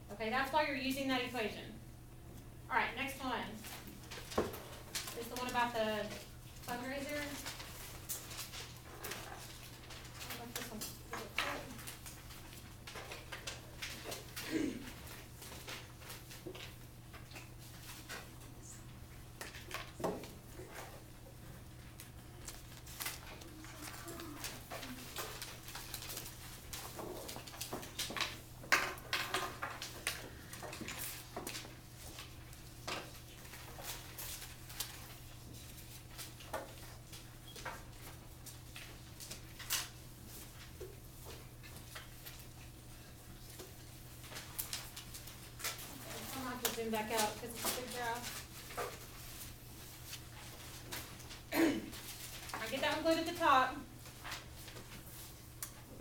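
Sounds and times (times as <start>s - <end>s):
paper rustling: 3.6s - 18.4s, 21.8s - 28.5s, 29.5s - 56.0s.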